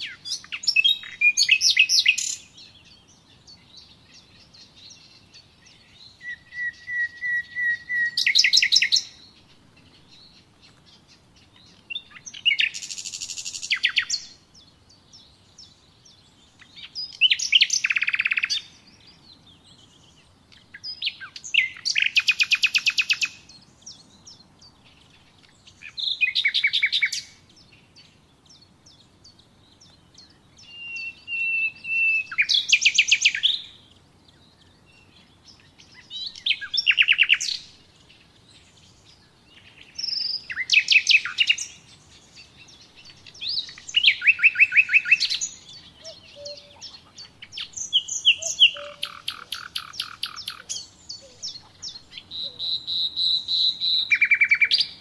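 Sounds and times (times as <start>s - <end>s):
bird singing trills: 0.0s - 55.0s.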